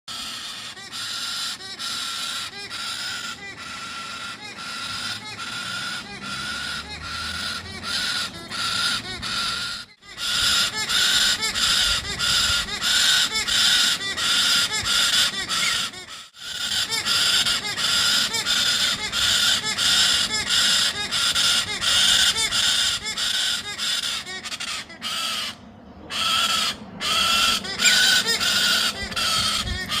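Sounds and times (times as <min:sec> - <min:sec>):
baby bird squawking: 0:00.1 - 0:30.0.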